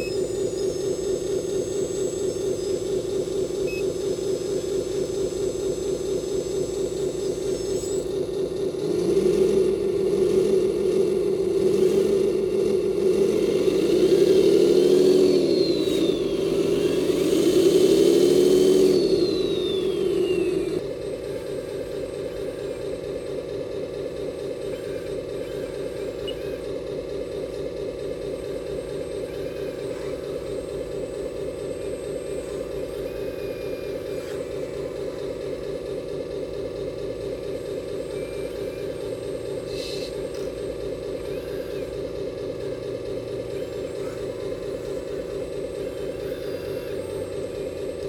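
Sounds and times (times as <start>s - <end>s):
electric hydraulic pump whining: 0.0s - 48.0s
fast-pulsing hydraulic whine: 0.0s - 48.0s.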